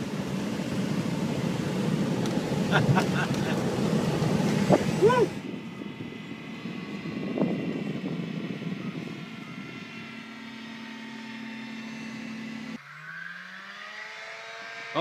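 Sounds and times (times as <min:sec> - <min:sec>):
steady hum: 0:00.0 - 0:12.8
light aircraft engine droning: 0:00.0 - 0:15.0.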